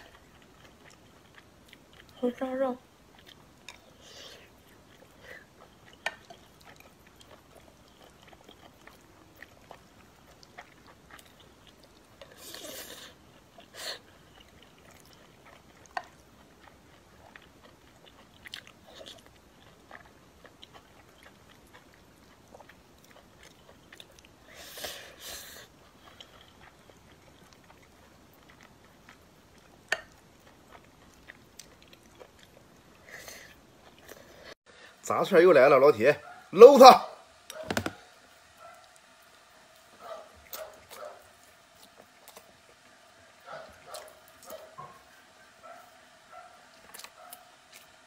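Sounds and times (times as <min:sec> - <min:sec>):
chewing and mouth noises: 0:00.0 - 0:34.6, 0:38.6 - 0:45.1, 0:46.6 - 0:48.0.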